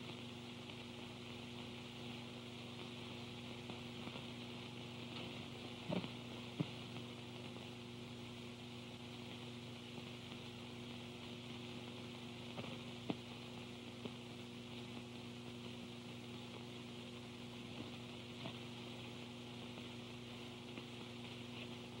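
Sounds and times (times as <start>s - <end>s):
film soundtrack hum and hiss: 0.0s - 22.0s.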